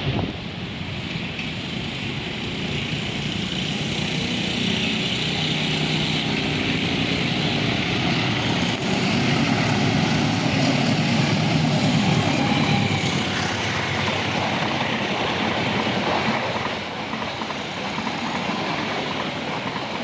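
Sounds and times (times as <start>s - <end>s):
traffic rumble: 0.0s - 20.0s
train engine drone and hiss: 0.0s - 20.0s.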